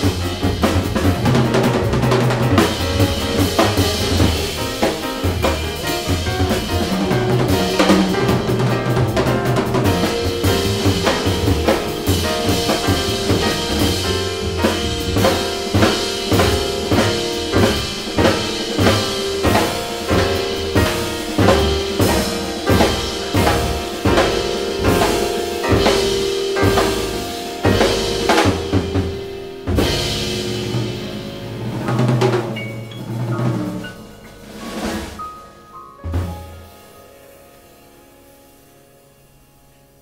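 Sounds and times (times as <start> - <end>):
walking bass: 0.0 - 35.2, 36.0 - 36.8
loud drum kit hits: 0.0 - 37.0
live jazz quartet playing: 0.0 - 40.0.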